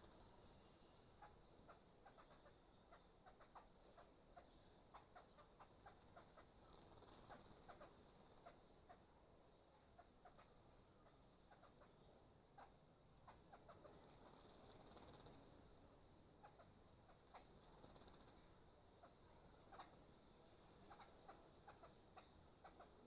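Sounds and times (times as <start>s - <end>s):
small birds bathing ticks: 0.0s - 9.2s, 9.8s - 23.0s.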